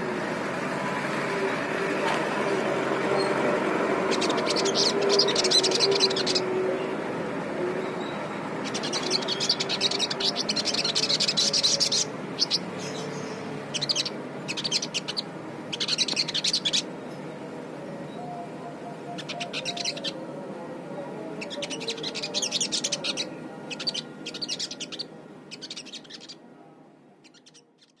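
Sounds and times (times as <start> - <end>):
low background noise: 0.0 - 28.0.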